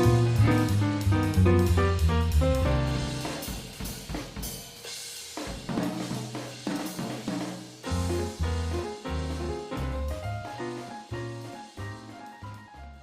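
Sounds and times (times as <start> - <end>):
bass: 0.0 - 4.9, 6.0 - 13.0
piano: 0.0 - 5.1, 5.7 - 13.0
drum kit: 0.0 - 13.0.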